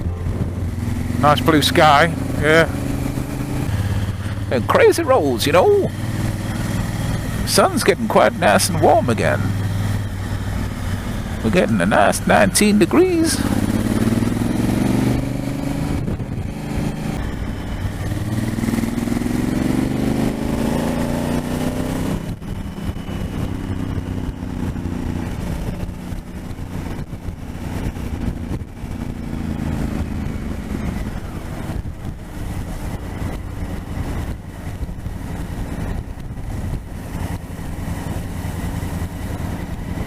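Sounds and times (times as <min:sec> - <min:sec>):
motorcycle engine accelerating: 0:00.0 - 0:40.0
wind and road noise: 0:00.0 - 0:40.0.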